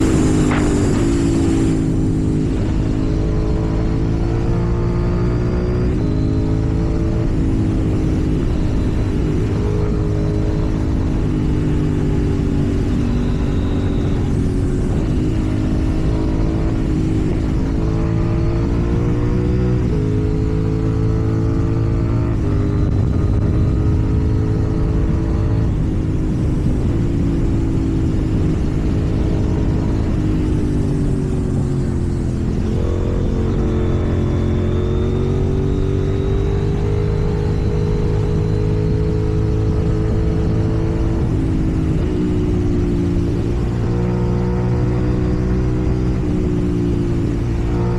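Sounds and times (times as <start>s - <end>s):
motorcycle engine revving: 0.0s - 47.9s
wind and road rumble: 0.0s - 47.9s.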